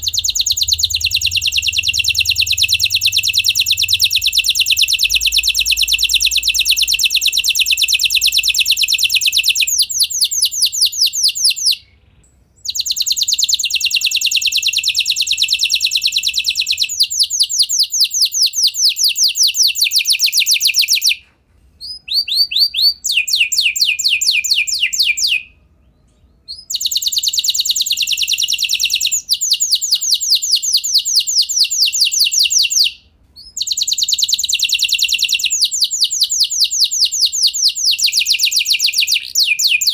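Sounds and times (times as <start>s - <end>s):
canary trilling: 0.0s - 21.2s, 21.8s - 39.9s.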